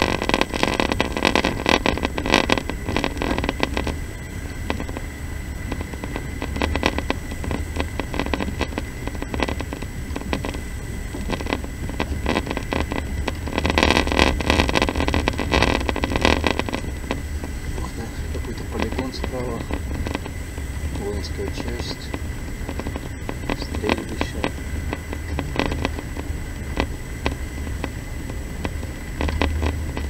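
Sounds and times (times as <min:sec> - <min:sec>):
train rumble inside carriage: 0:00.0 - 0:30.0.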